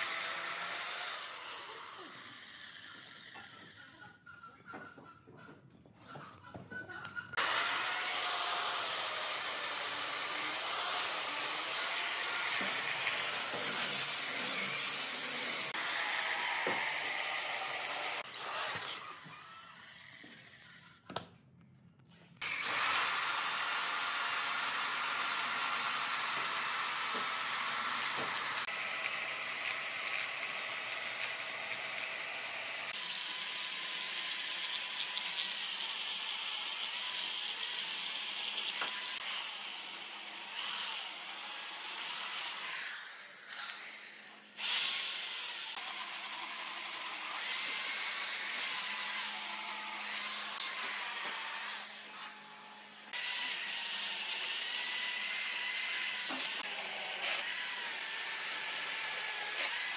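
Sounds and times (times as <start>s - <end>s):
electric chainsaw cutting log: 0.0s - 4.0s, 7.4s - 20.7s, 22.4s - 59.9s.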